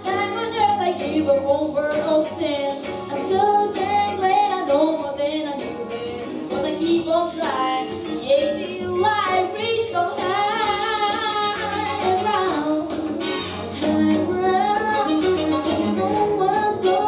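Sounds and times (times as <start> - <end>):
backing track: 0.0 - 17.0
woman singing: 0.0 - 17.0.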